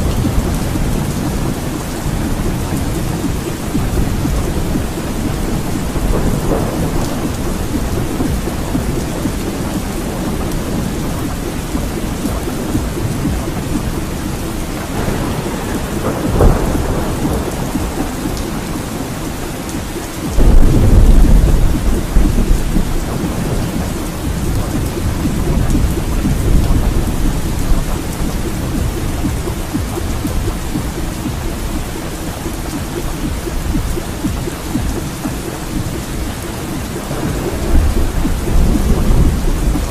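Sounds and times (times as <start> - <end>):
loud thunder clap: 0.0 - 31.8, 32.7 - 39.9
rolling thunder: 0.0 - 39.9
steady rain: 0.0 - 39.9.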